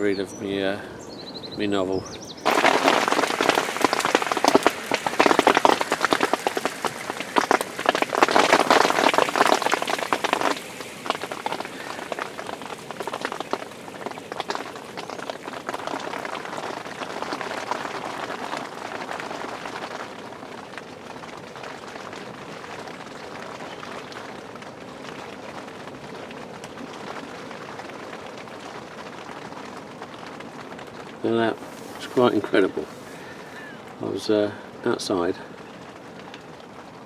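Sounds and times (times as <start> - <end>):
hailstones pelting down: 2.4 - 37.0.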